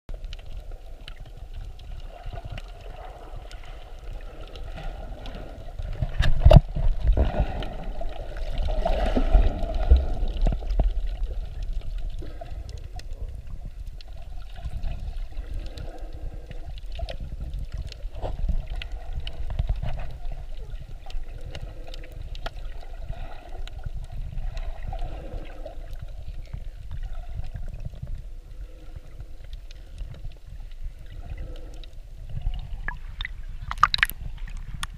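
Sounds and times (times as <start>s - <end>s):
low underwater rumble: 0.1s - 34.9s
underwater rush and slosh: 0.1s - 34.9s.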